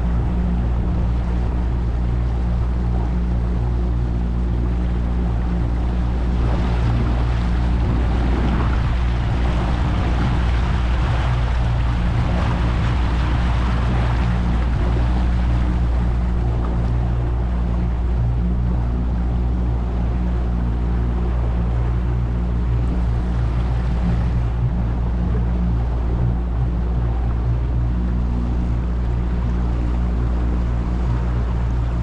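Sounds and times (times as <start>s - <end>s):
boat engine running: 0.0s - 32.0s
water rushing along hull: 0.0s - 32.0s.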